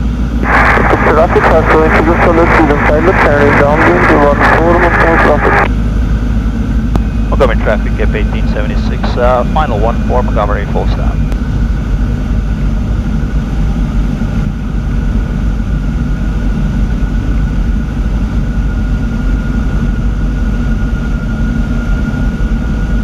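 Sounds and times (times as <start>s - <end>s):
aircraft engine drone in cabin: 0.0s - 23.0s
thin steady whine: 0.0s - 23.0s.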